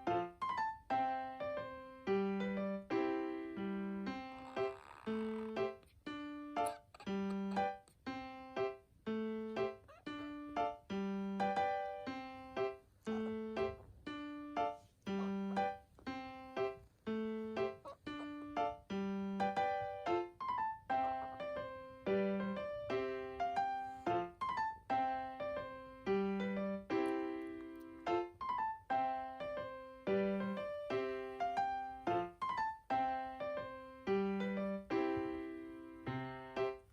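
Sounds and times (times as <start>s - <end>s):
light piano tune with beat: 0.0s - 4.4s, 5.2s - 36.9s.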